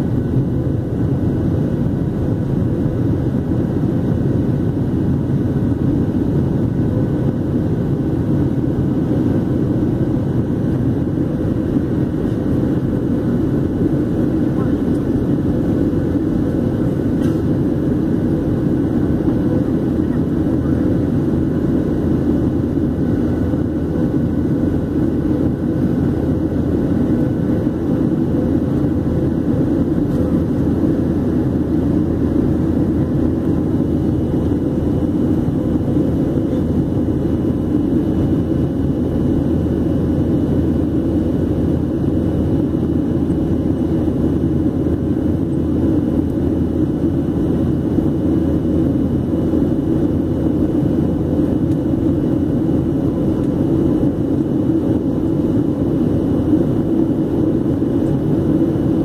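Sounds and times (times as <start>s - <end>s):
airplane cabin engine and air noise: 0.0s - 59.0s
faint steady whine: 0.0s - 59.0s.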